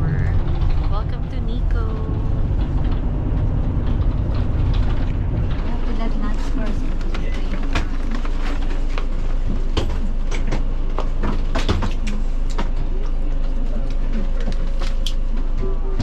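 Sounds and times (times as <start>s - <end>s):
rattles and clicks: 0.0s - 15.6s
vehicle cabin rumble: 0.0s - 16.0s.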